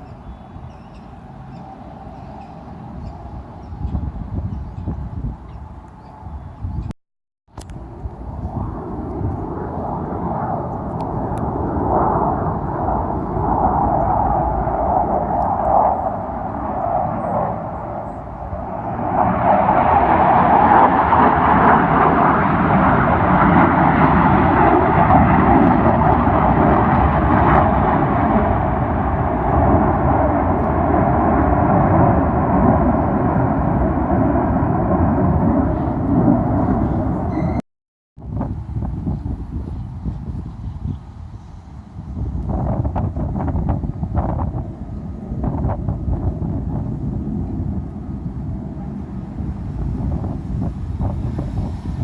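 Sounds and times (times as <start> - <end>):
jet aircraft roaring: 0.0 - 6.5, 7.6 - 37.6, 41.4 - 52.0.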